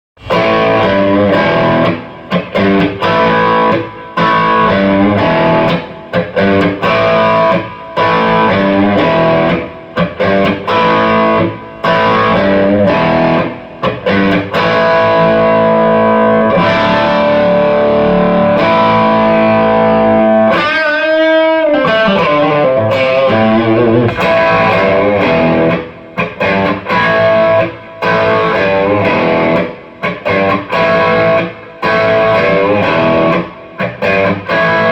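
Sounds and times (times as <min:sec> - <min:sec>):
distorted electric guitar: 0:00.2 - 0:34.9.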